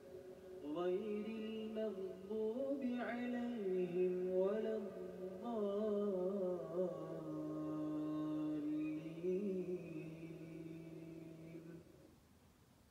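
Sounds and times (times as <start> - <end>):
voice chanting with held tones: 0.0 - 12.0.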